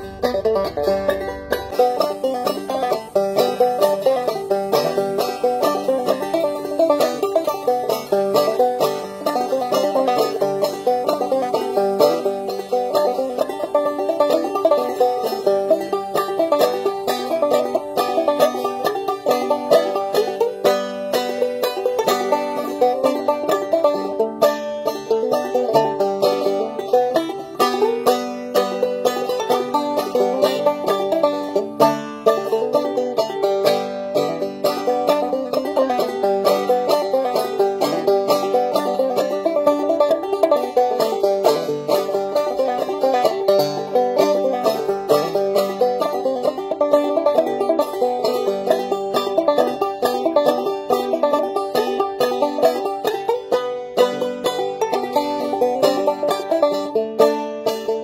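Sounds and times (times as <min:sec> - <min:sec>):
banjo playing solo: 0:00.0 - 0:58.0.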